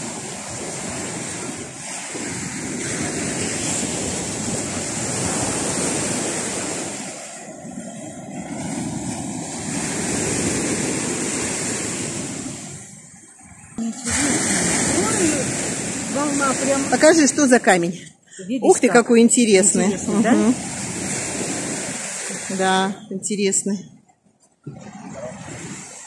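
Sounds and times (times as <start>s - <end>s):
surf breaking on sandy beach: 0.0s - 13.1s, 13.9s - 17.9s, 19.4s - 23.0s, 24.7s - 26.0s.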